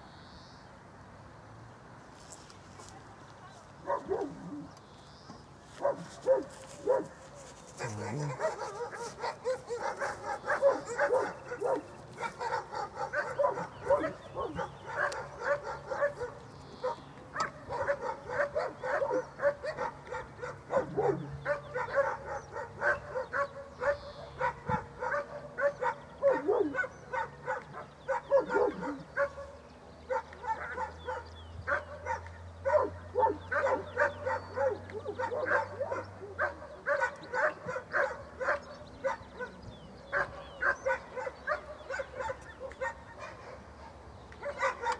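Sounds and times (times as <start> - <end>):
dog barking: 3.8 - 4.7, 5.8 - 7.2, 7.8 - 43.7, 44.4 - 44.9.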